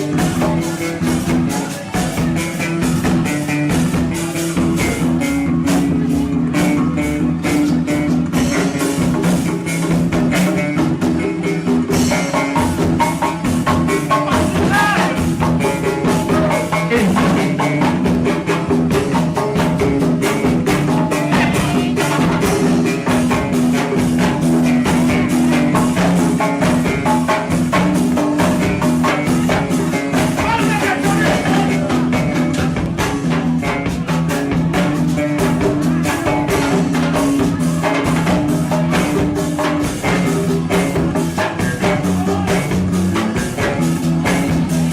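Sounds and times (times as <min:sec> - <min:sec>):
loud music with fast beat: 0:00.0 - 0:44.9.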